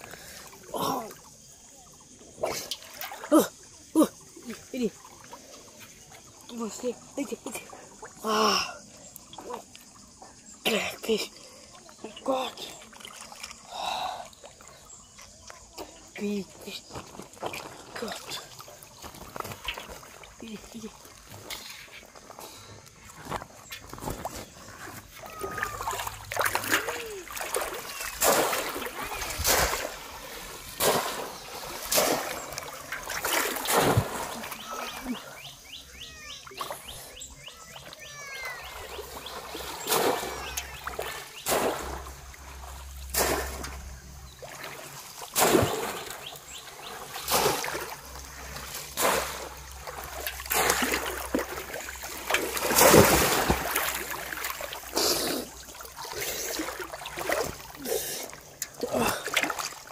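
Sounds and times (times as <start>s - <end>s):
water splashing: 0.0s - 59.9s.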